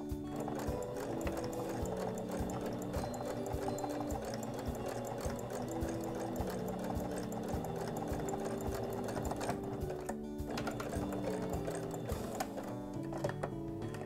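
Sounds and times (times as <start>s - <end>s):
sewing machine needle clicking: 0.3s - 14.0s.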